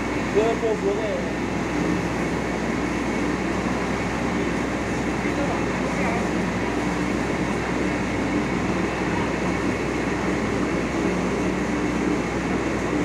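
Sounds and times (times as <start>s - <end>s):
fire truck engine humming: 0.0s - 13.0s.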